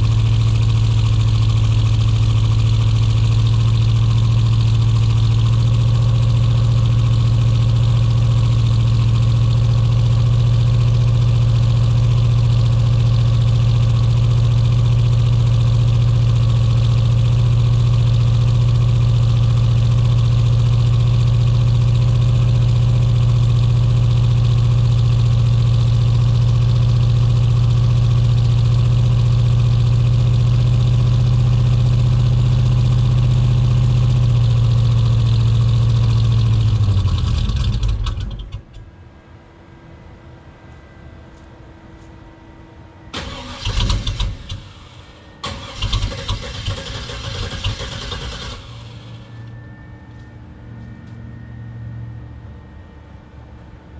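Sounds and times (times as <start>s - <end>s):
rough engine idling: 0.0s - 38.8s, 43.2s - 50.2s.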